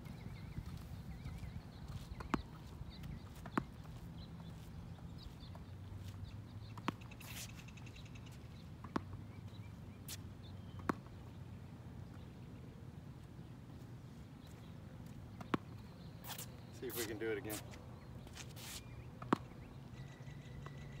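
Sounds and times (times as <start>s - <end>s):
small birds chirping: 0.0s - 11.4s, 12.0s - 21.0s.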